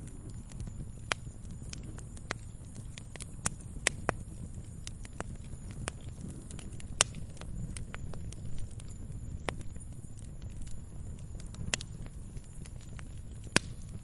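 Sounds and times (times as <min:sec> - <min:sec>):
snowstorm wind rumble: 0:00.0 - 0:14.0
wood fire crackling and popping: 0:00.0 - 0:14.0.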